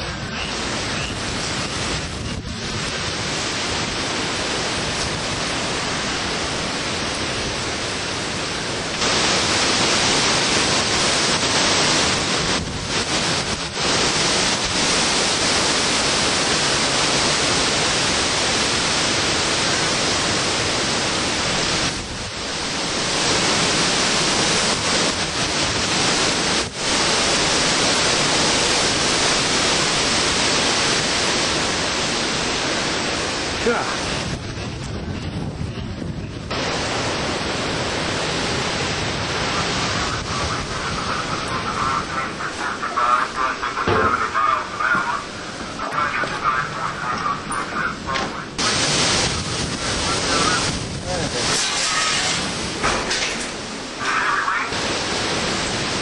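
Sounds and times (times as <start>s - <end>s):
driving rain: 0.0s - 56.0s
howling wind: 0.0s - 56.0s.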